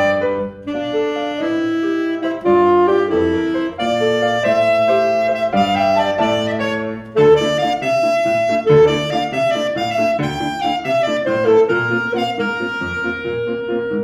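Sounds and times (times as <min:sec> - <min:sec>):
alto saxophone jazz melody: 0:00.0 - 0:14.0
piano accompaniment: 0:00.0 - 0:14.0.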